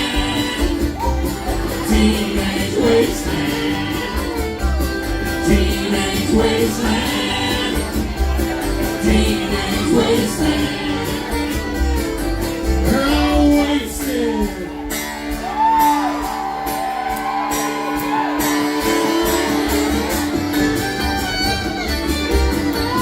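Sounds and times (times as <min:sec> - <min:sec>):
acoustic folk band playing: 0:00.0 - 0:23.0.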